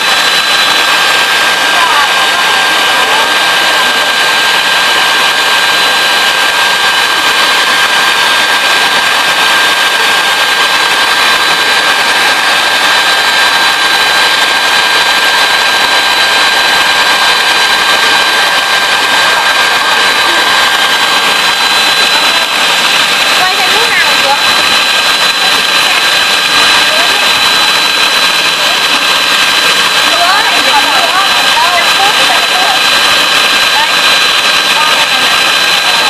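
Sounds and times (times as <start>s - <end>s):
electric mixer whining: 0.0s - 36.0s.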